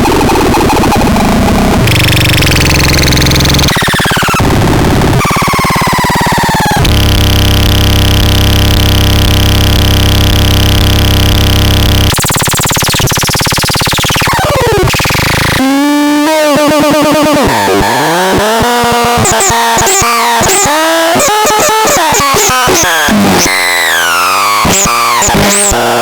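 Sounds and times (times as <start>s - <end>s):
harsh synthesizer tones: 0.0s - 26.0s.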